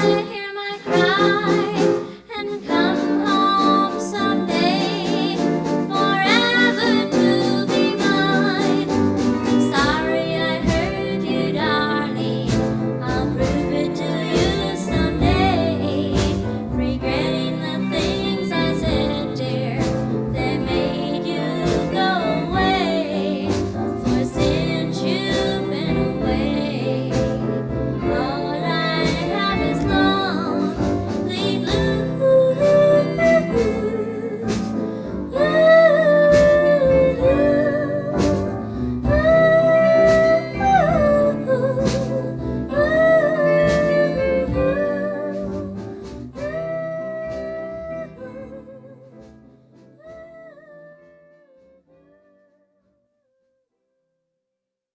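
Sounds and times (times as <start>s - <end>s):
woman singing pop song: 0.0s - 49.1s
band accompaniment: 0.0s - 50.0s.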